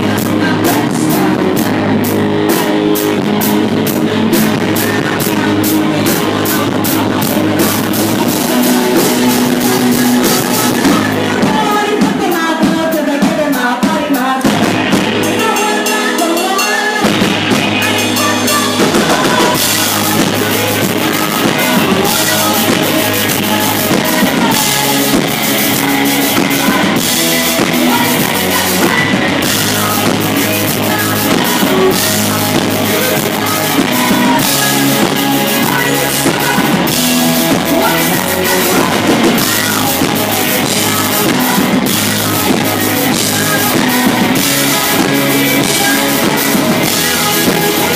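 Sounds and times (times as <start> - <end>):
woman singing into microphone: 0.0 - 3.3, 3.9 - 47.9
bass guitar: 0.0 - 47.9
drums and cymbals: 0.0 - 47.9
live rock band playing: 0.0 - 47.9.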